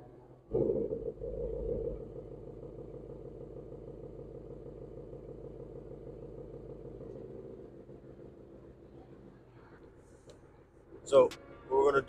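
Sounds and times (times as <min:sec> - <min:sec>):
car engine idling: 0:00.0 - 0:11.7.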